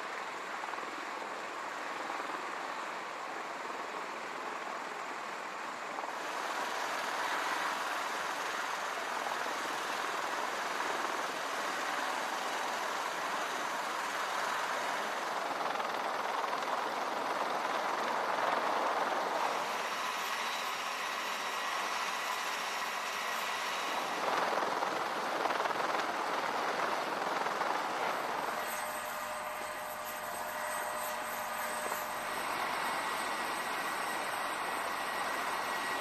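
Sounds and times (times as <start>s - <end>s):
aircraft engines and rotors rushing: 0.0s - 36.0s.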